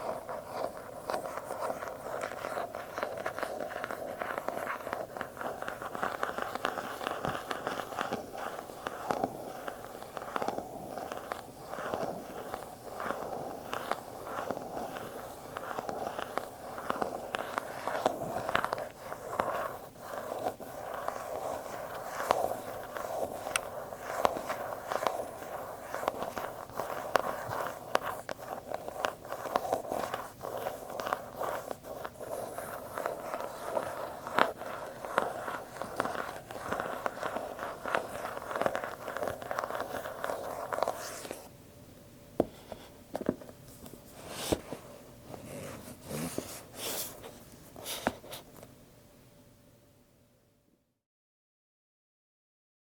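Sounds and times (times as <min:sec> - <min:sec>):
scratching and rubbing on boxes: 0:00.0 - 0:41.5, 0:42.4 - 0:48.6.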